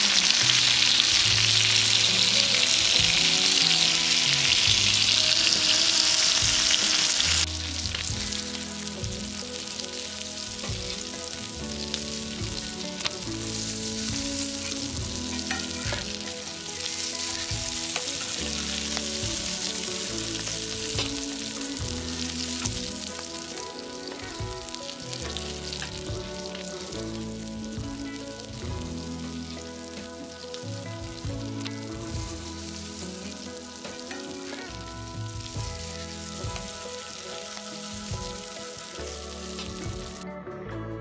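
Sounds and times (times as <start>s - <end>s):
fish sizzling in oil: 0.0s - 40.2s.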